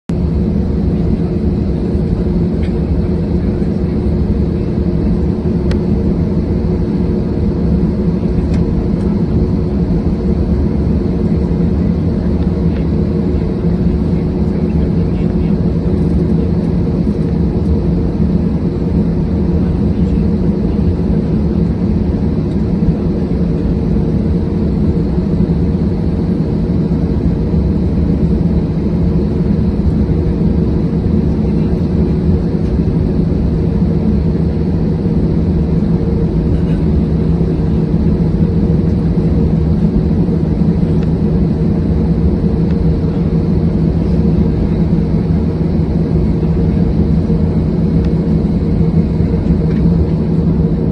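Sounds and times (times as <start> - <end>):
jet engines droning: 0.1 - 50.9.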